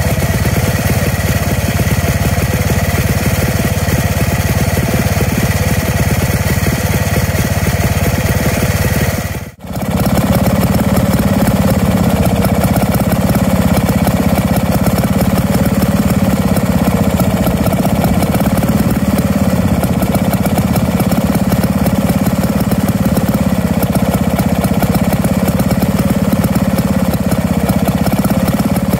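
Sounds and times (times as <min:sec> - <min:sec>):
stationary engine running: 0:00.0 - 0:28.9.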